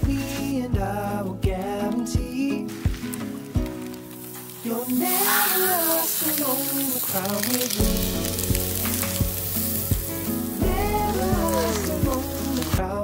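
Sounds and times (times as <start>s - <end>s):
background music with beat: 0.0s - 13.0s
steak sizzling on a grill: 2.6s - 13.0s.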